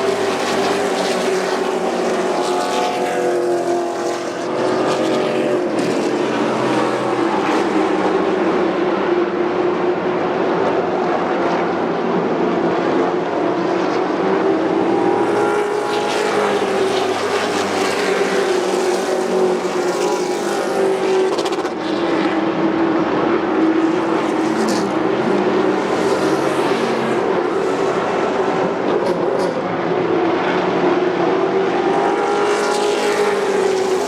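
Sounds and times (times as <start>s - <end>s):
race truck engines droning: 0.0s - 34.0s.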